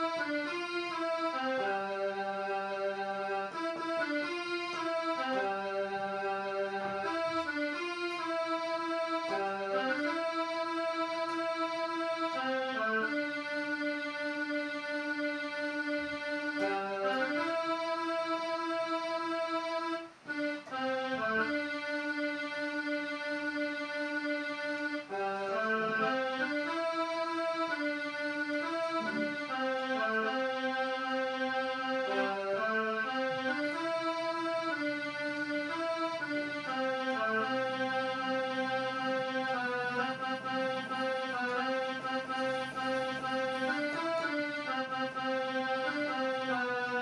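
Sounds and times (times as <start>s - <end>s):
electronic keyboard slow melody: 0.0s - 47.0s.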